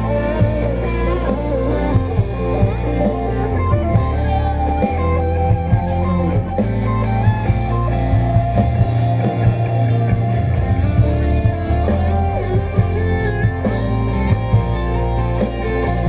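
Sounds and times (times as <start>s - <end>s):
country-rock band playing: 0.0s - 16.0s
sliding guitar notes: 0.0s - 16.0s.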